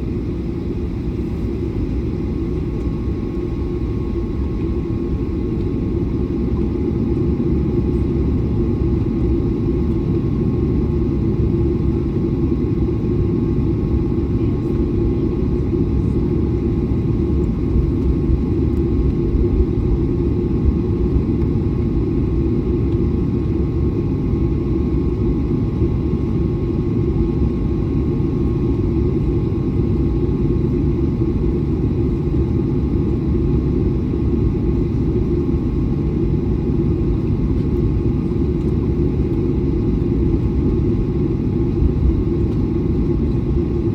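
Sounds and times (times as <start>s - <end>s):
jet airliner taxiing rumble: 0.0s - 43.9s.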